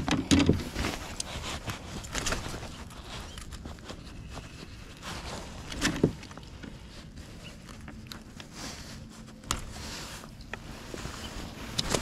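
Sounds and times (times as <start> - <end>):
fishing tackle clicks and rustles: 0.0 - 12.0.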